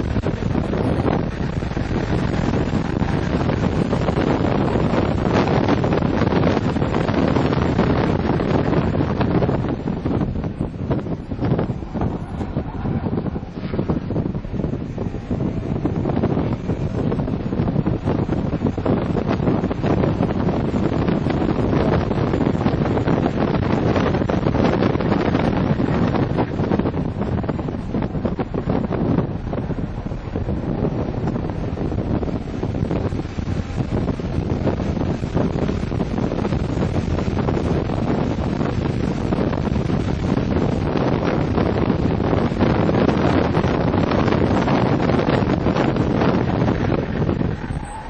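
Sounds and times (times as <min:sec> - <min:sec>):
car engine: 0:00.0 - 0:48.0
road noise: 0:00.0 - 0:48.0
wind buffeting on microphone: 0:00.0 - 0:48.0.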